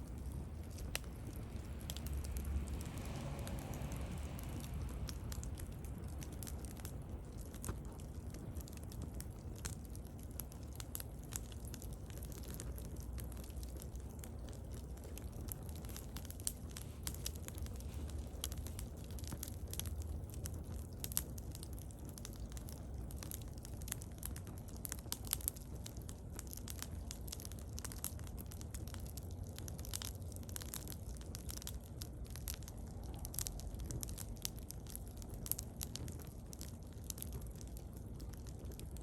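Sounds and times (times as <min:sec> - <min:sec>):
bonfire crackling and popping: 0:00.0 - 0:39.0
low steady rumble: 0:00.0 - 0:39.0.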